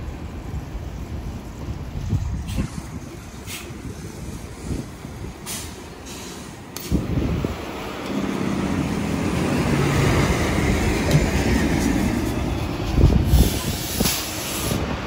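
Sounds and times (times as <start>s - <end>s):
diesel bus engine pulling away: 2.1s - 15.0s.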